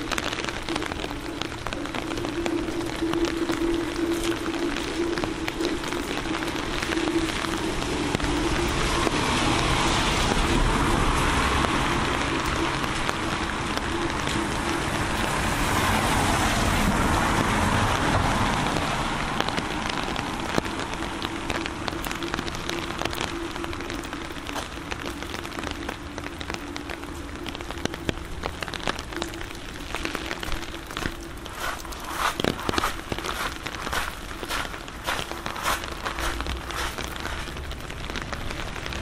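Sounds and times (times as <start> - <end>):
raindrops ticking sharply: 0.0 - 39.0
steady rain: 0.0 - 39.0.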